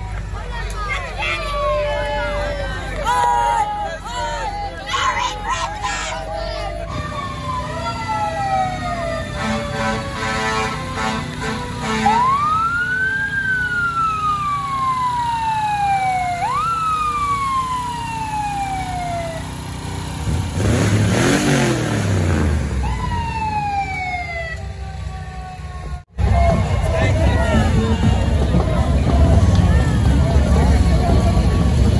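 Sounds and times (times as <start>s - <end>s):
emergency siren wailing: 1.2s - 20.4s, 22.6s - 31.9s.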